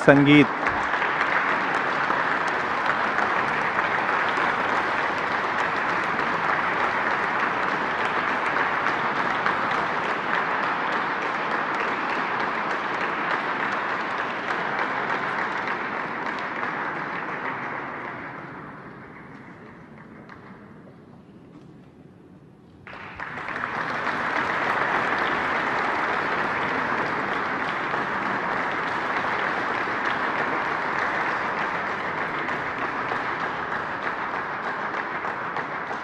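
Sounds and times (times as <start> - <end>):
audience applauding: 0.0 - 20.5, 22.8 - 36.0.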